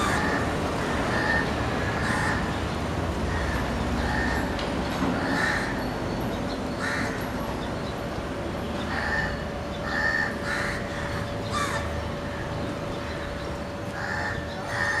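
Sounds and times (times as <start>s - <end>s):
harsh bird calls: 0.0s - 15.0s.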